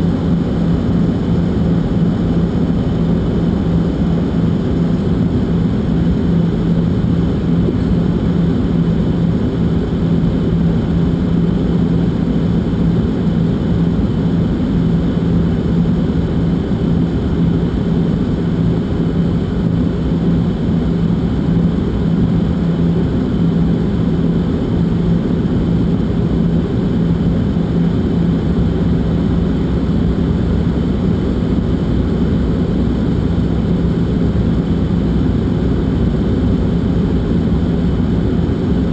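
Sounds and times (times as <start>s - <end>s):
jet airliner cabin rumble: 0.0s - 38.9s.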